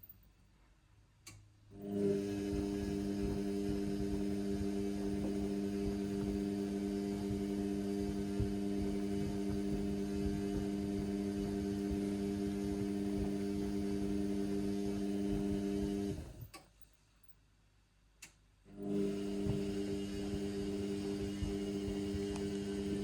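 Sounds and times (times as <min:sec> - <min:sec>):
washing machine humming: 0:01.7 - 0:16.5, 0:18.7 - 0:23.0.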